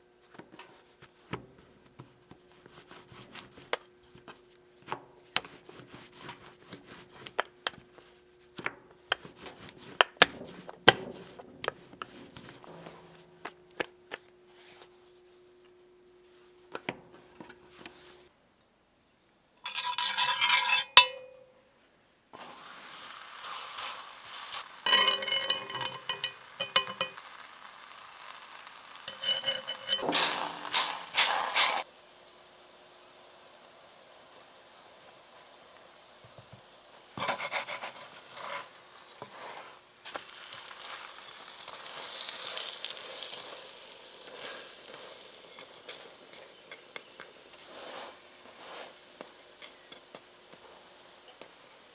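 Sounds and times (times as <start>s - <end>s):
flatbread sizzling in a pan: 0.0s - 13.6s, 22.4s - 51.9s.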